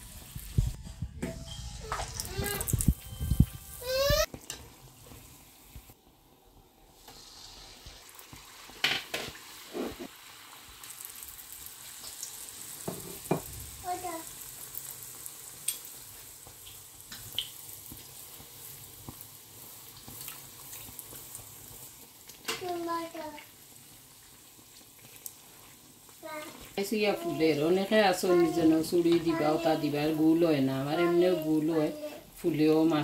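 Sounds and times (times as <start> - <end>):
cake sizzling in hot oil: 0.0 - 0.8, 1.6 - 33.0.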